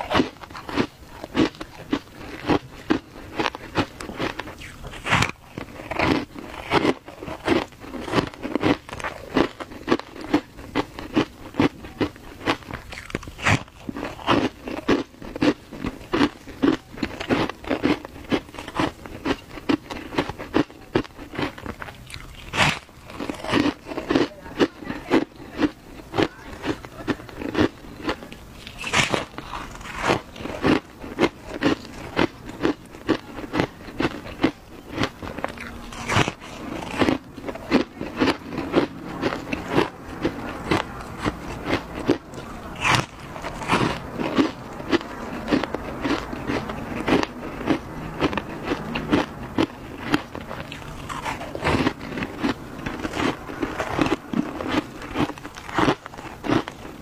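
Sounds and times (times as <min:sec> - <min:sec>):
crunching shaved ice: 0:00.0 - 0:57.0.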